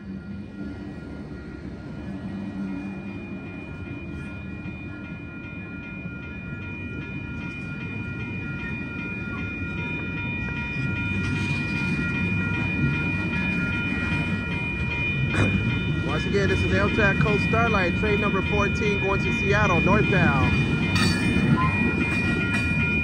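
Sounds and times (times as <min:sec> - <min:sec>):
crossing bells ringing: 0:00.0 - 0:23.0
train wheels rumbling on rails: 0:00.0 - 0:23.0.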